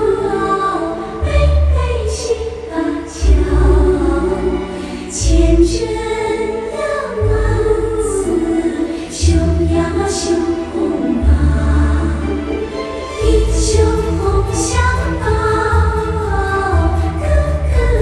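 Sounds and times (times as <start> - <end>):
choir singing: 0.0 - 18.0.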